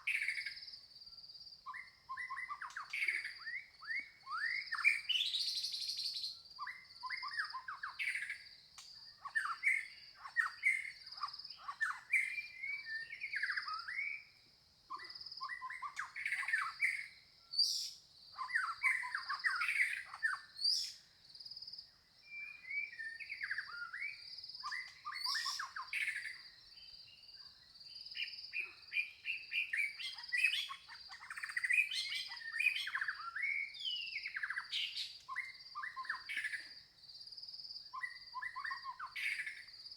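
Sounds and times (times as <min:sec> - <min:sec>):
small birds chirping: 0:01.6 - 0:14.3, 0:14.9 - 0:21.4, 0:22.2 - 0:36.9, 0:37.9 - 0:39.9.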